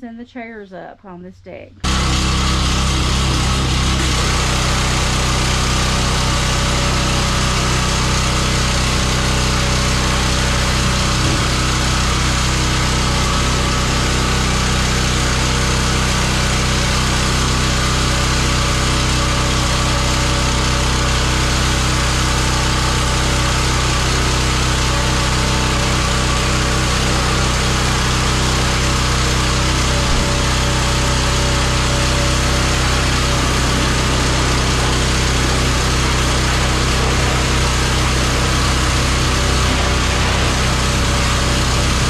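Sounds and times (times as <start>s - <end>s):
pressure washer engine running: 1.8s - 42.0s.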